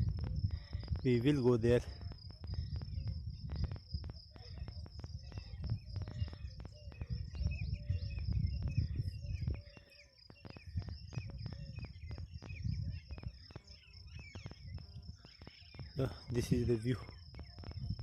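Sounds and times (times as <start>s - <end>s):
high insect drone: 0.0s - 18.0s
wind rumble on microphone: 0.0s - 18.0s.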